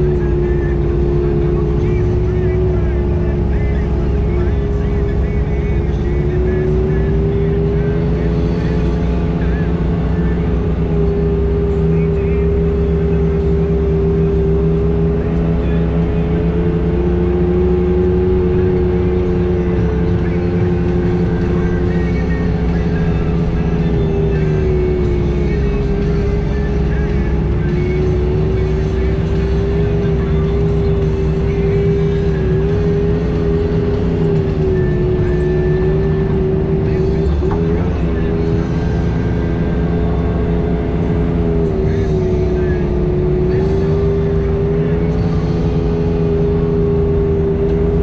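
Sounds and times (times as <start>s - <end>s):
drivetrain whine: 0.0s - 48.0s
utility vehicle engine running: 0.0s - 48.0s.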